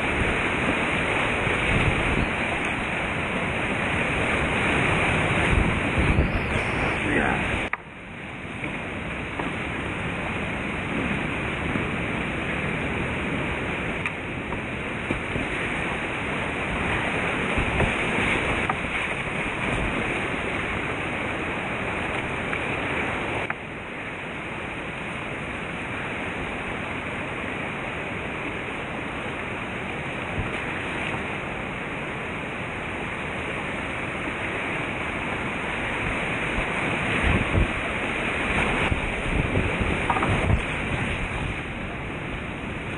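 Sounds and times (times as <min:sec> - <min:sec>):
wind on microphone: 0:00.0 - 0:07.8, 0:08.4 - 0:23.6, 0:29.7 - 0:42.9
whitewater rapids rushing: 0:00.0 - 0:42.9.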